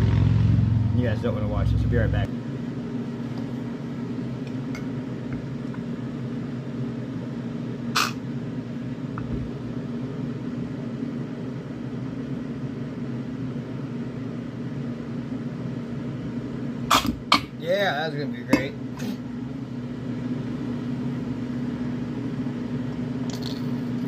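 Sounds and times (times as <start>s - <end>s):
appliance humming: 0.0s - 24.0s.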